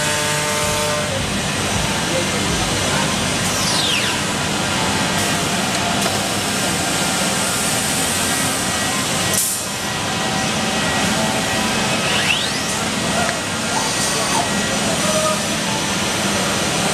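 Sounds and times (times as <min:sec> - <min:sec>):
falling whine: 0:00.0 - 0:16.9
wood router machining noise: 0:00.0 - 0:16.9.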